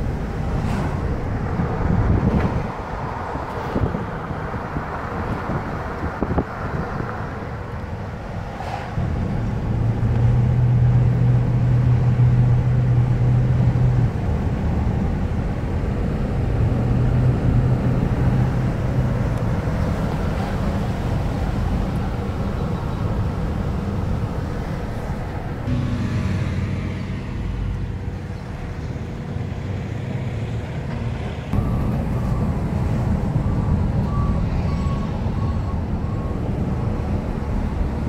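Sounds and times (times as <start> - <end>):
car cabin road drone: 0.0 - 38.0.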